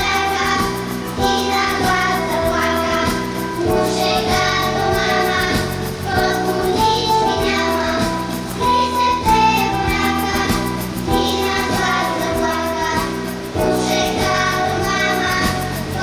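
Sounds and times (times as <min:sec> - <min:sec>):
children's choir singing: 0:00.0 - 0:16.0
instrumental accompaniment with beat: 0:00.0 - 0:16.0.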